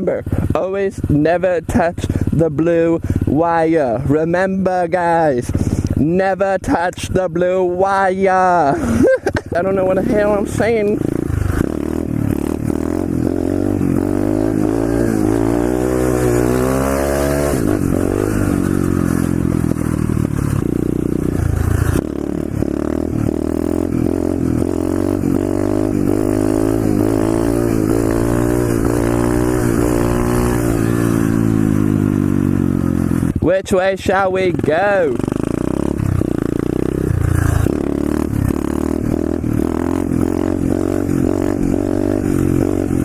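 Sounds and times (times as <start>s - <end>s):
pit bike engine revving: 0.0s - 43.0s.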